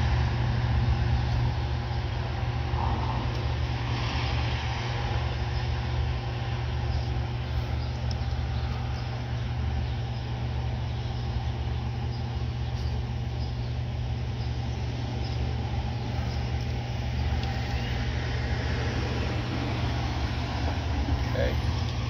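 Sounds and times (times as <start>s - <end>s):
street traffic rumble: 0.0s - 22.0s
vehicle engine running: 0.0s - 22.0s.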